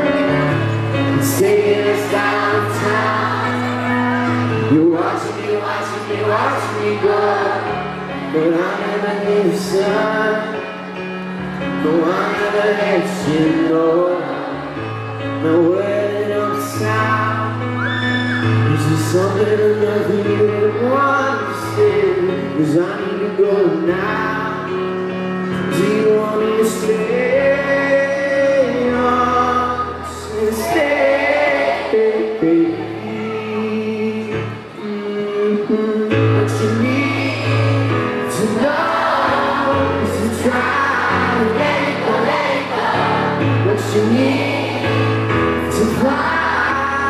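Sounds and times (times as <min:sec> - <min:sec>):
man singing slow song: 0:00.0 - 0:42.2, 0:43.4 - 0:47.0
electric piano chords: 0:00.0 - 0:47.0.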